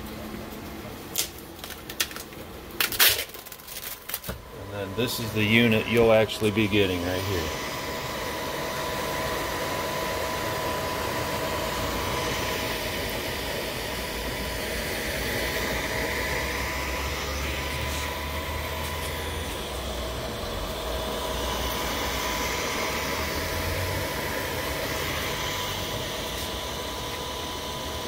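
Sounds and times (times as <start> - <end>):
cooling fan noise: 0.0 - 28.0
cryocooler low hum: 0.0 - 28.0
faint whine: 3.2 - 28.0.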